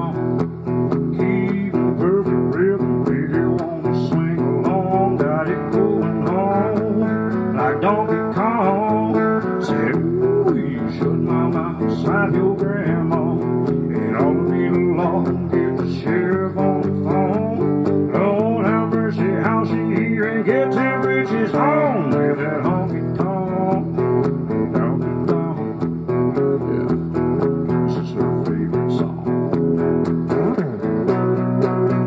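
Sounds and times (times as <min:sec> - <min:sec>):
country guitar playing: 0:00.0 - 0:32.0.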